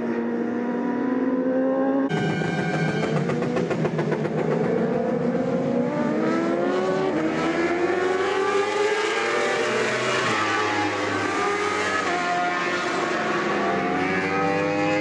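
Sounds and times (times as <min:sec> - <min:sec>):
motorcycle engines revving high: 0:00.0 - 0:15.0.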